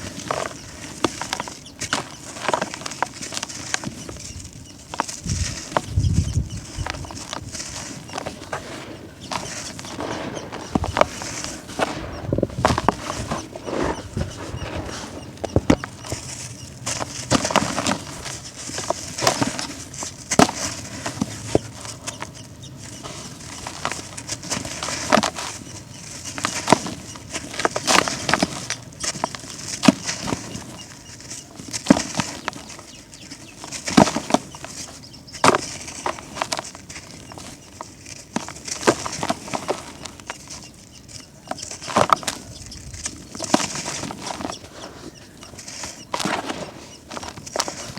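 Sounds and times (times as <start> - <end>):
chunks crunching by hand: 6.7 - 47.9.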